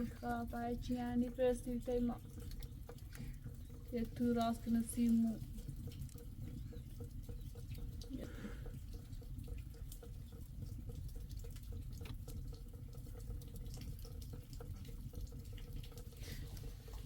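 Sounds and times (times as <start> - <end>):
drips and taps: 0.0 - 17.0
steady rain: 0.0 - 17.0.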